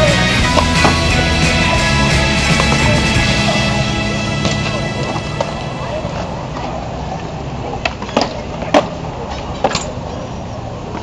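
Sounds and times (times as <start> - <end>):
wheels rolling on concrete: 0.0 - 11.0.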